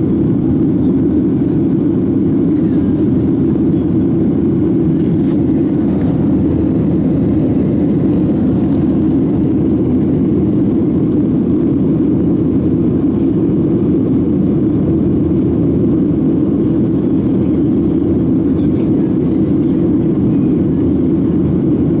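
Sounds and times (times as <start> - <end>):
airplane cabin roar: 0.0 - 22.0.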